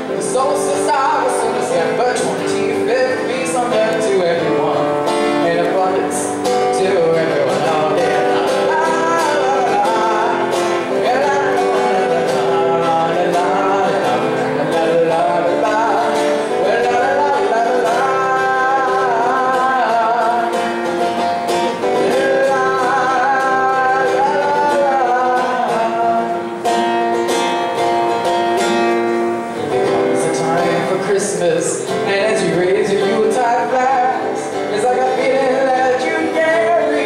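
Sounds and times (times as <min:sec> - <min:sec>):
guitar accompaniment: 0:00.0 - 0:37.0
person singing: 0:00.0 - 0:37.0.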